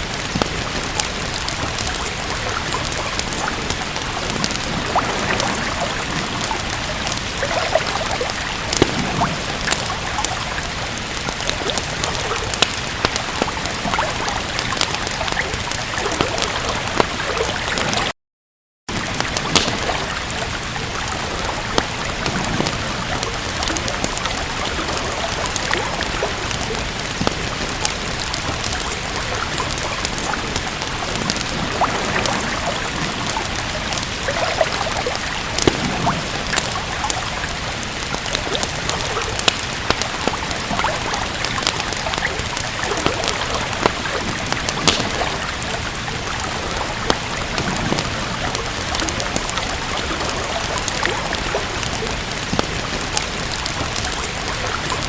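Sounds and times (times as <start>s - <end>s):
steady rain: 0.0s - 18.1s, 18.9s - 55.0s
wood fire crackling: 0.0s - 18.1s, 18.9s - 55.0s.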